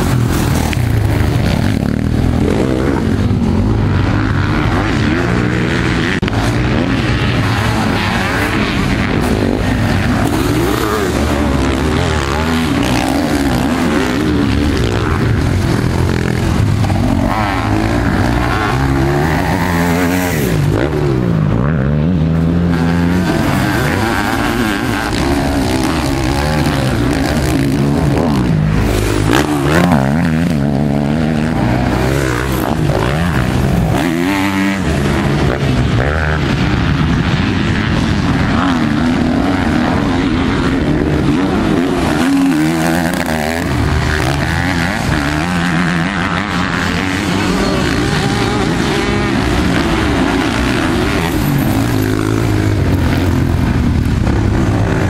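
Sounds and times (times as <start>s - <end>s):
motorcycle engines revving hard: 0.0s - 55.0s.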